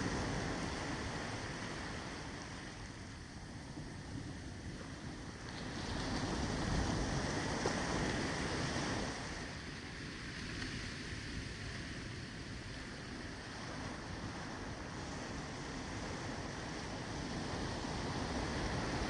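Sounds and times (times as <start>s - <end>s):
ocean surf washing onto beach: 0.0s - 19.0s.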